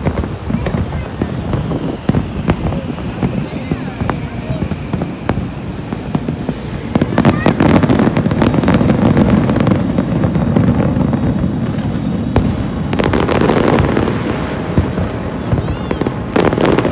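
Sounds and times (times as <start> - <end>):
fireworks booming and crackling: 0.0 - 16.9.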